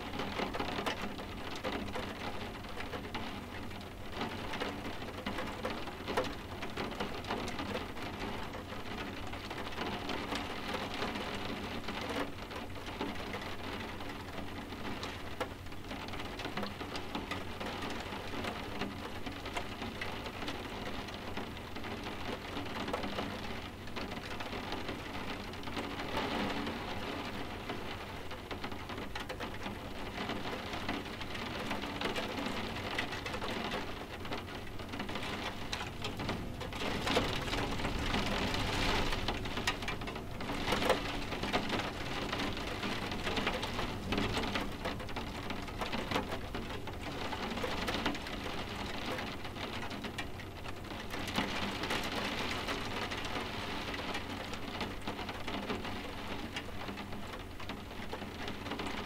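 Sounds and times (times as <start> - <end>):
rain tapping on window glass: 0.0 - 59.0.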